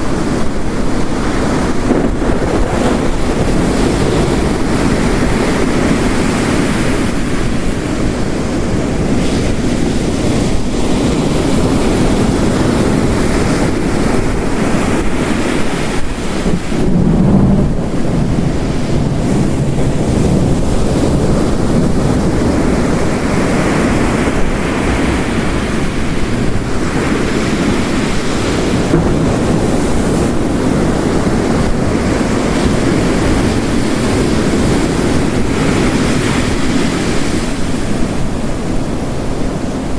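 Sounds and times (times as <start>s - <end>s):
heavy rain: 0.0s - 39.9s
ocean waves breaking: 0.0s - 39.9s.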